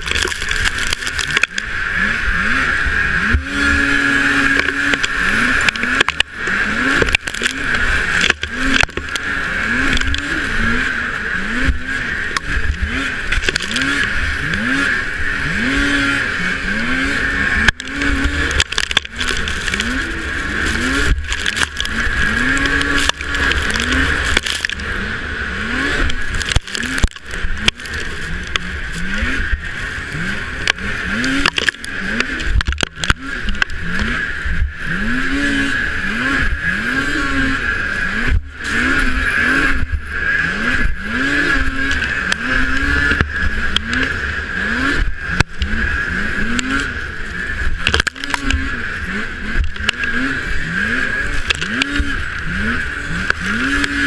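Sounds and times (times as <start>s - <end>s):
snowmobile engine revving: 0.0s - 54.0s
steady high whine: 0.0s - 54.0s.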